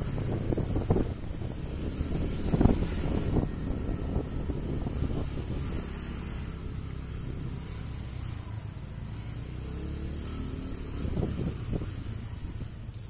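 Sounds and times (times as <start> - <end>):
scooter engine running: 0.0 - 13.0
wind rumble on microphone: 0.0 - 13.0.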